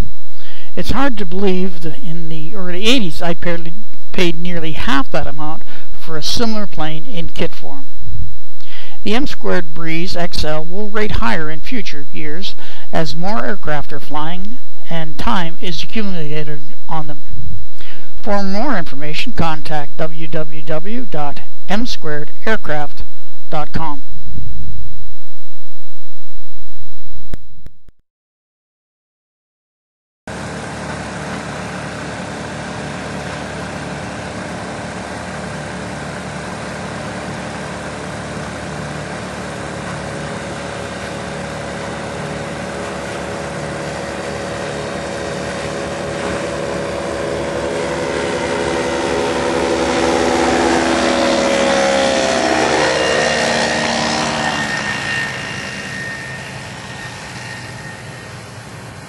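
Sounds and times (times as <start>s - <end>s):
light aircraft engine drone: 0.0s - 8.0s, 8.6s - 22.3s, 30.3s - 59.0s.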